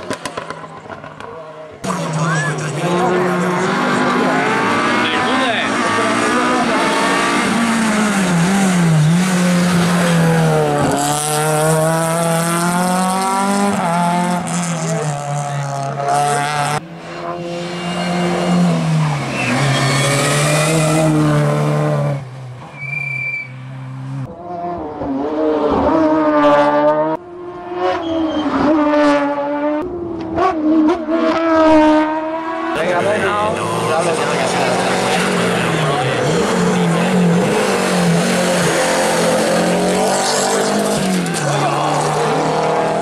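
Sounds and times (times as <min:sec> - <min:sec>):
race car engines revving: 0:00.0 - 0:43.0.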